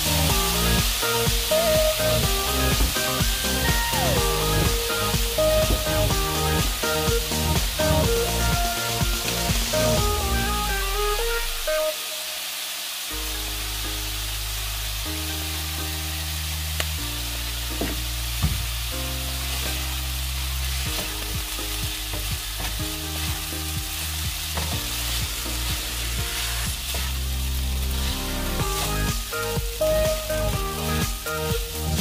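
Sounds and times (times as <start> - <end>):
rice sizzling in a skillet: 0.0 - 32.0.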